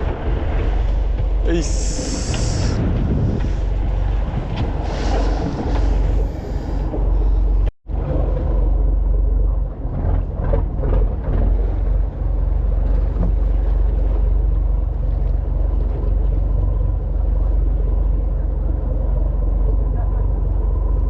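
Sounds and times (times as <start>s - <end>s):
boat engine low rumble: 0.0s - 21.0s.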